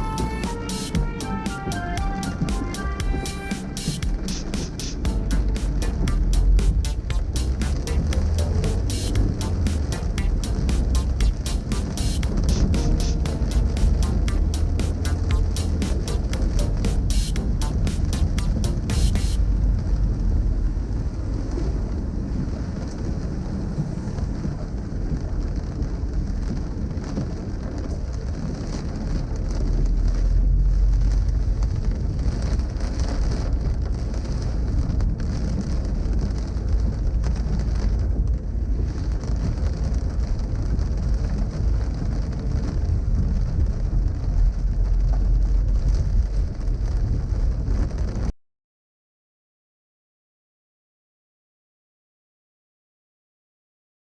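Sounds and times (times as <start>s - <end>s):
engine and road rumble: 0.0s - 48.0s.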